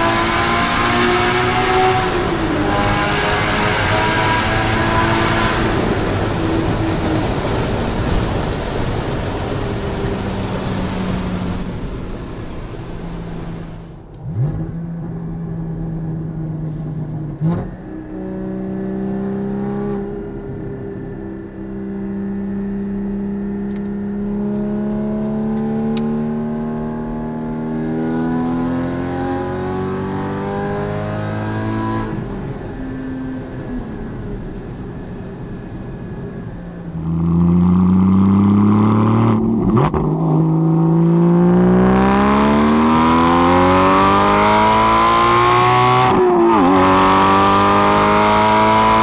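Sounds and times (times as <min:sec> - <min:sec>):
sports car engine accelerating: 0:00.0 - 0:34.4, 0:35.6 - 0:49.0.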